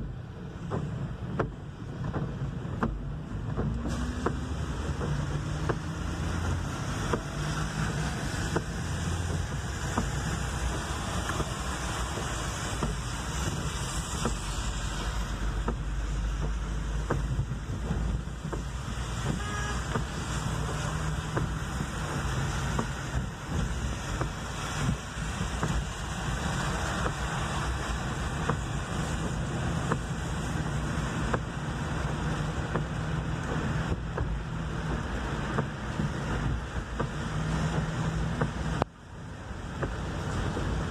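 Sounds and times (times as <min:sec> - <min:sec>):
low engine hum: 0:00.0 - 0:40.9
wet tyres on pavement: 0:00.0 - 0:40.9.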